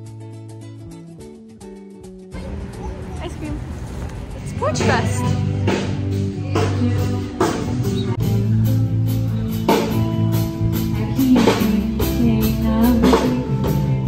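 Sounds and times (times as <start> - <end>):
band playing: 2.3 - 14.0
drum kit beat: 2.3 - 14.0.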